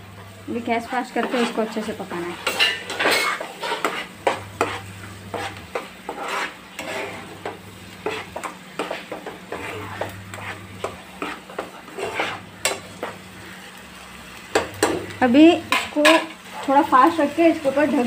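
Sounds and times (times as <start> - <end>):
light sizzle: 0.0 - 18.0
spoon scraping frying pan: 0.8 - 18.0.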